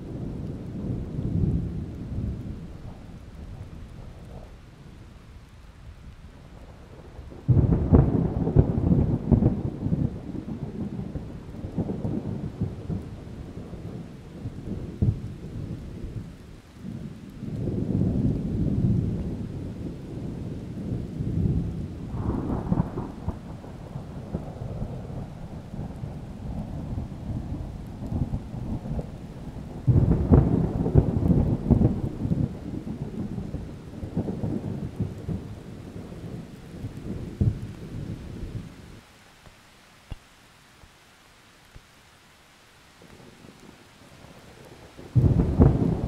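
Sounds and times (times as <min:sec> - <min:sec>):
distant thunder rolling: 0:00.0 - 0:04.6, 0:06.6 - 0:38.9, 0:43.0 - 0:46.0
steady rain: 0:00.0 - 0:46.0.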